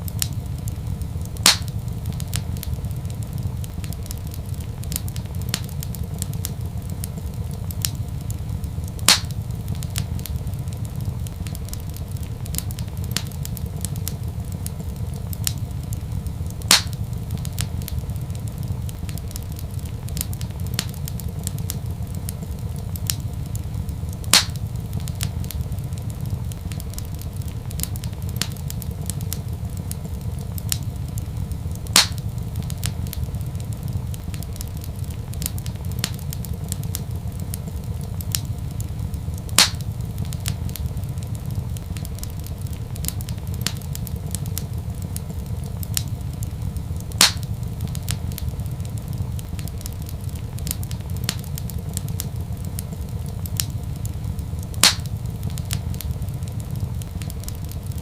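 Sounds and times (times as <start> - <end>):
sharp fire pops: 0.0 - 58.0
wood fire crackling: 0.0 - 58.0.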